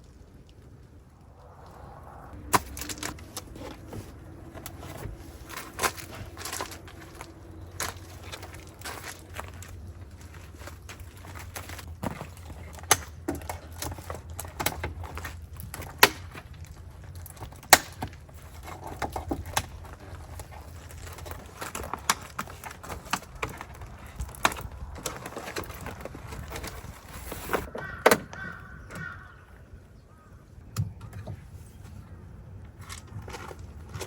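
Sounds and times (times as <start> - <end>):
low steady hum: 0.0 - 27.7.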